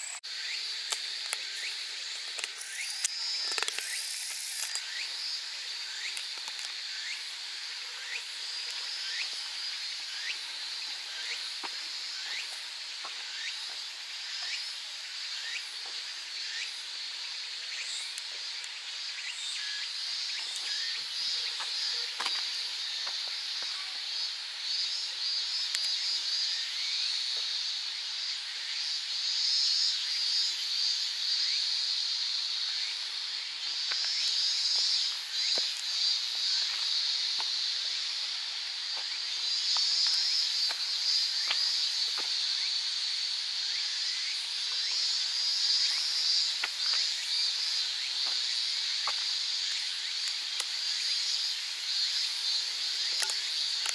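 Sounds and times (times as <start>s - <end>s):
insects shrilling: 0.0s - 53.9s.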